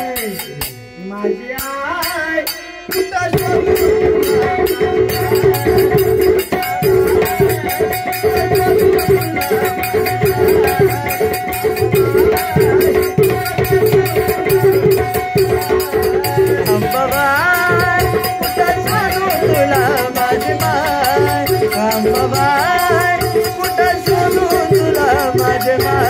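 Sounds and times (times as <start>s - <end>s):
hand drums beating: 1.6s - 26.0s.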